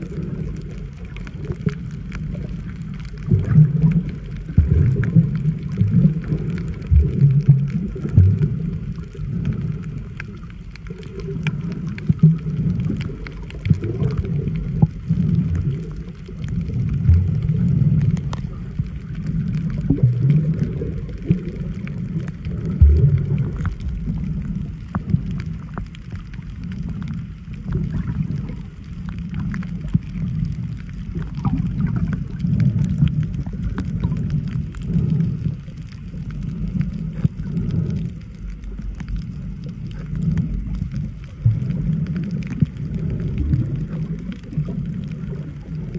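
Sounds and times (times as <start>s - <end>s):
muffled underwater water sloshing: 0.0s - 45.9s.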